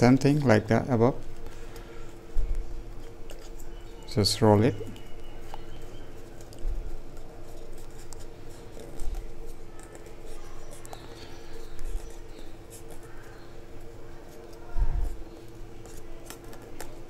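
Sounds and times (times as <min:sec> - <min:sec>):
paper rustling: 0:00.0 - 0:17.0
steady hum: 0:00.0 - 0:17.0.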